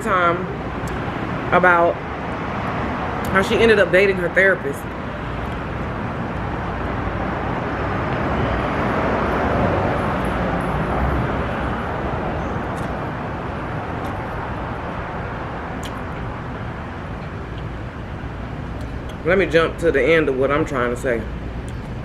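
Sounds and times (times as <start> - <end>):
vehicle passing: 0.0 - 22.0.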